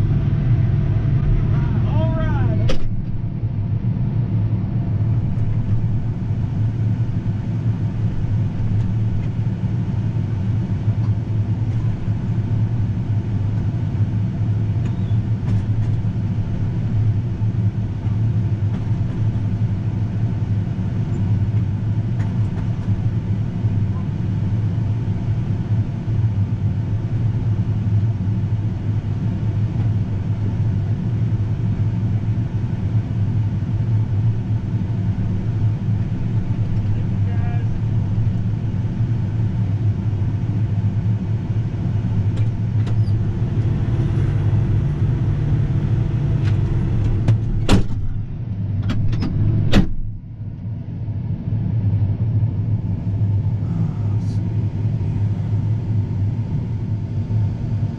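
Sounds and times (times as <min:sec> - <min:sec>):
combine engine low hum: 0:00.0 - 0:57.9.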